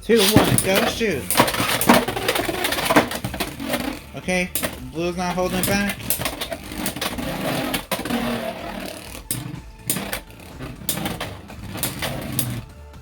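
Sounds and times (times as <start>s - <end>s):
spinning tops whirring: 0.0s - 12.9s
spinning tops clacking: 0.1s - 12.7s.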